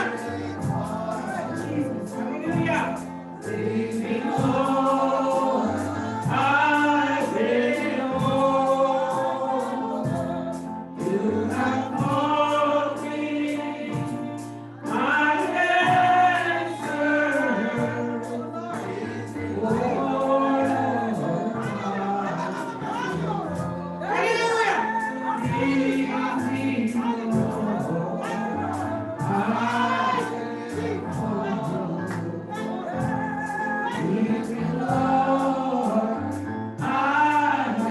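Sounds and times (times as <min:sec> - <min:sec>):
gospel choir singing: 0:00.0 - 0:37.9.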